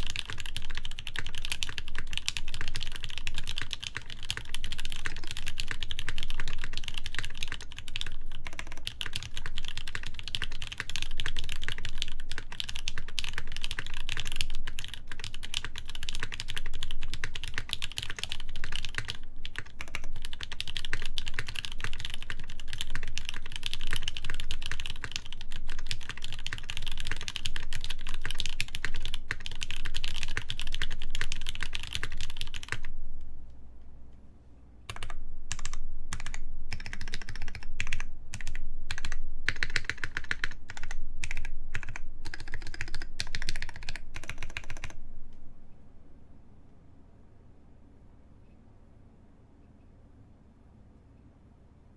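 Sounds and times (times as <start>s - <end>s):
mechanical keyboard typing: 0.0s - 32.9s, 34.9s - 45.0s.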